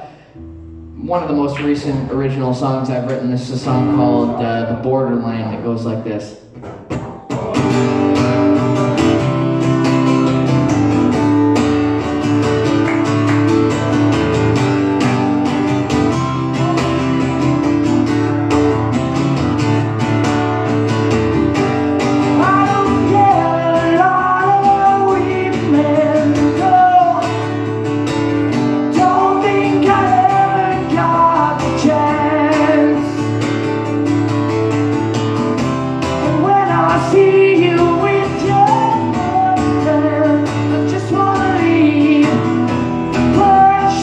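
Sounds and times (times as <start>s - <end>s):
acoustic guitar strumming: 0.0s - 5.9s, 6.5s - 44.0s.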